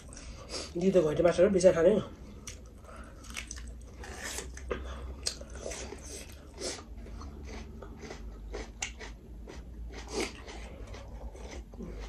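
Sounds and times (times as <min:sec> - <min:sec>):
chewing and smacking: 0:02.2 - 0:12.0.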